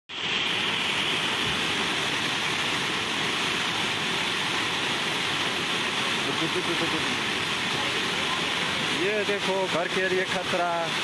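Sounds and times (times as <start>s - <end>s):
flood water rushing: 0.1s - 11.0s.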